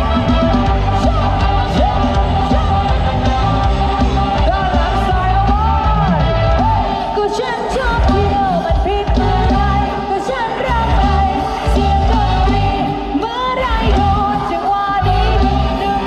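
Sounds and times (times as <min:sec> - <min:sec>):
heavy pulsing bass beat: 0:00.0 - 0:13.1
person singing with sliding notes: 0:00.0 - 0:16.0.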